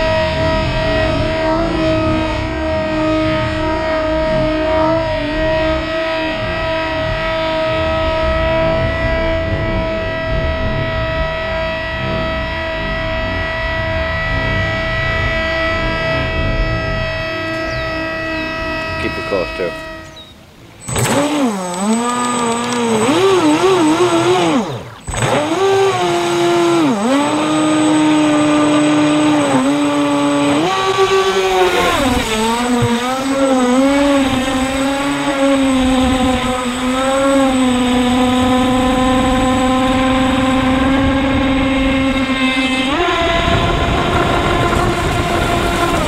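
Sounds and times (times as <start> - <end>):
electric motor whine: 0.0 - 46.0.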